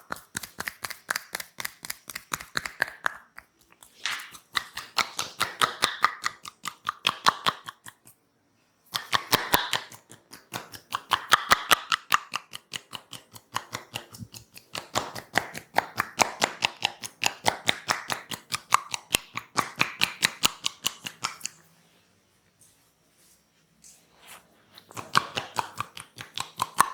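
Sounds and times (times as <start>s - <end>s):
hands tapping and slapping skin: 0.0s - 8.0s, 8.9s - 21.6s, 24.9s - 26.9s.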